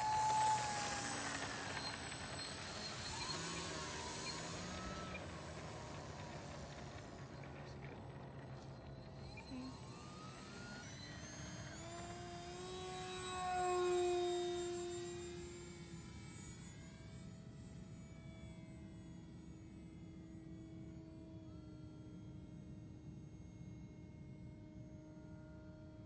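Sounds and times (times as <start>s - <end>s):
electric motor and propeller whine: 0.0s - 26.0s.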